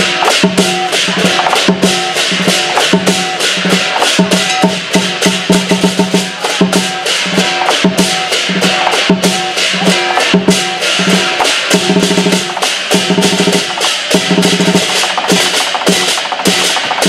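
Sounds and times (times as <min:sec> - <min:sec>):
clashing cymbals: 0:00.0 - 0:17.0
large drum beaten fast: 0:00.0 - 0:17.0.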